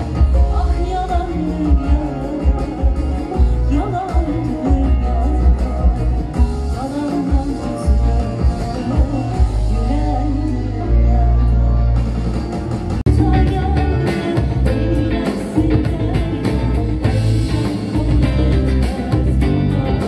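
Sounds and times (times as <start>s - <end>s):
woman singing: 0.0s - 12.0s, 13.1s - 20.0s
electric guitar: 0.0s - 20.0s.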